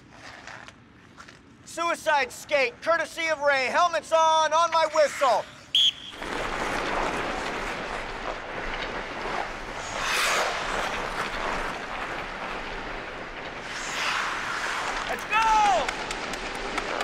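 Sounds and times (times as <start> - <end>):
skates scraping across ice: 0.0 - 17.0.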